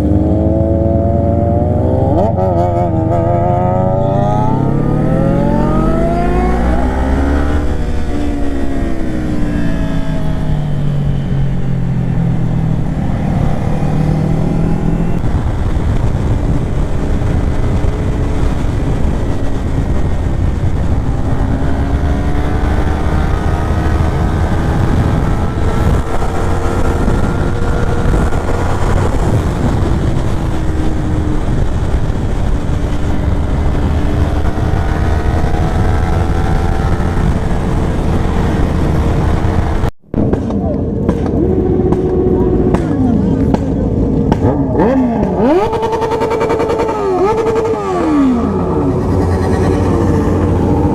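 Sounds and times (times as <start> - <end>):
motorcycle engine at speed: 0.0 - 50.9
wind rush on microphone: 0.0 - 50.9.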